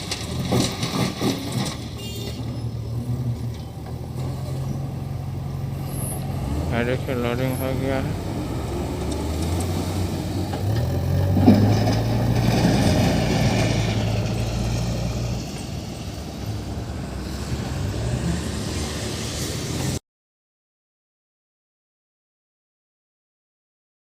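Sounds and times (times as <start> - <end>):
diesel engine revving: 0.0 - 20.0.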